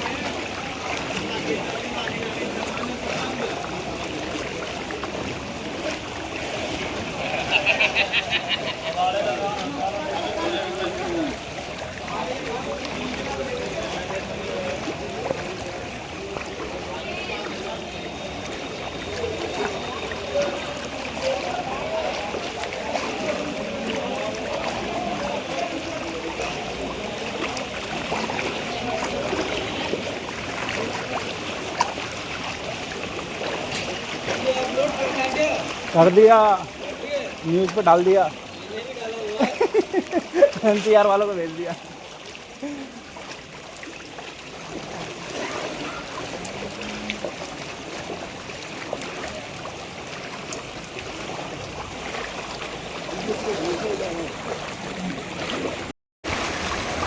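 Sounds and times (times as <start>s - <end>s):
floodwater sloshing and trickling: 0.0s - 57.0s
small water splashes: 0.0s - 57.0s.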